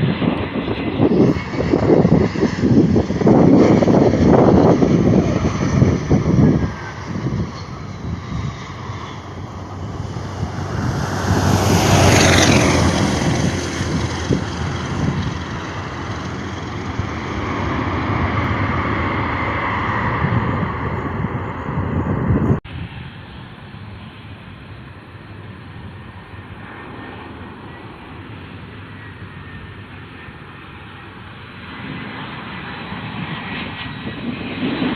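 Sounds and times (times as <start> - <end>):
jet airliner passing: 0.0 - 34.9.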